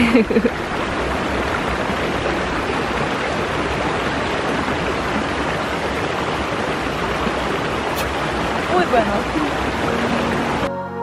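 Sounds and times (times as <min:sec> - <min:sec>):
stream rushing over stones: 0:00.0 - 0:10.7.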